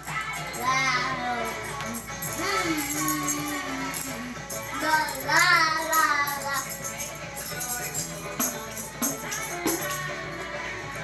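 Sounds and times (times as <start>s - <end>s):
pop song with singing: 0.0s - 11.0s
tambourine hits: 0.0s - 11.0s.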